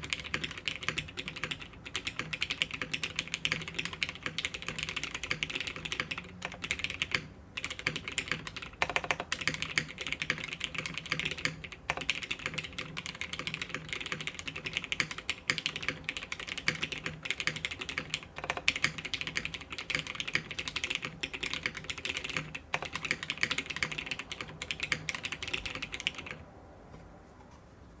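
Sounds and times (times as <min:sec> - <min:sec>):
fast typing on mechanical keyboard: 0:00.0 - 0:26.4.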